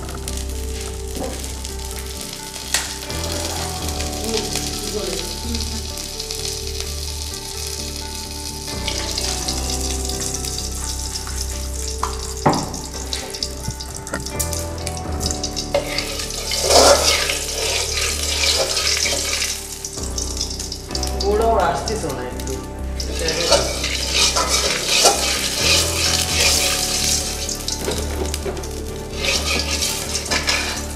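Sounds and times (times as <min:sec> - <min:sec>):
food sizzling in hot oil: 0:00.0 - 0:30.9
soft background music: 0:00.0 - 0:30.9.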